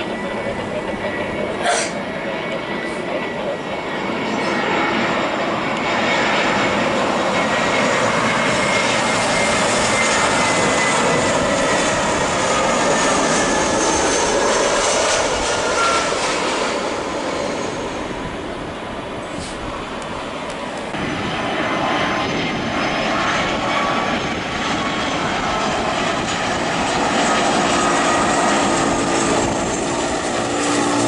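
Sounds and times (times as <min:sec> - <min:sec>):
high engine whine: 0:00.0 - 0:31.0
jet airliner passing low: 0:00.0 - 0:31.0.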